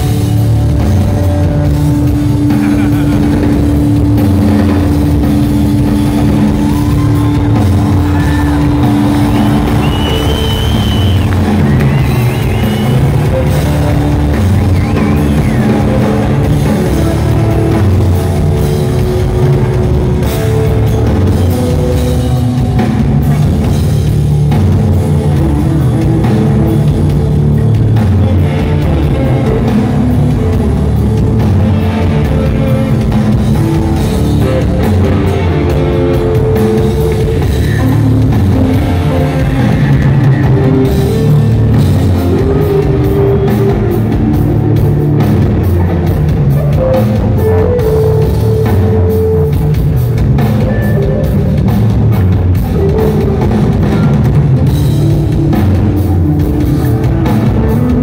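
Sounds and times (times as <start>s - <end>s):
bass guitar: 0.0s - 58.0s
distorted guitars: 0.0s - 58.0s
drum kit: 0.0s - 58.0s.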